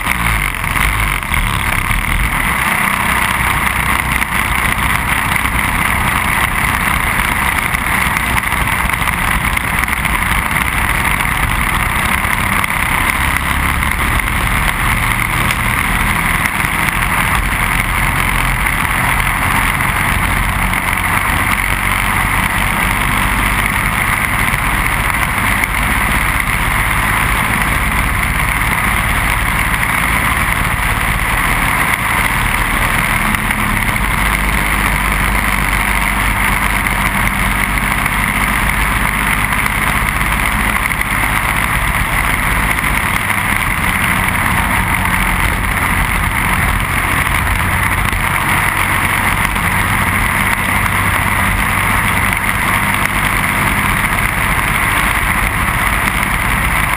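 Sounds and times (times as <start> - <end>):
kart engine running: 0.0 - 56.9.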